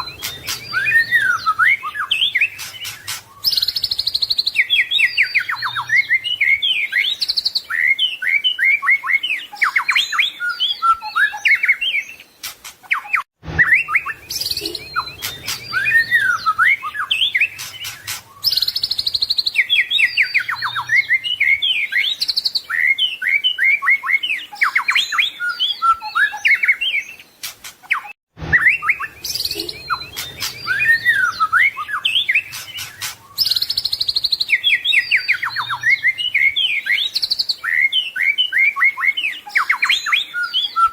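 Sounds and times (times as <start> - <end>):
bird singing trills and whistles: 0.0 - 40.9.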